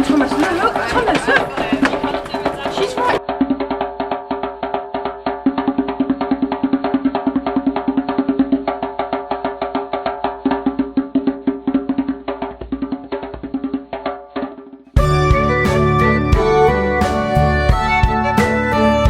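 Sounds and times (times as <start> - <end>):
fast struck percussive notes: 0.0 - 19.0.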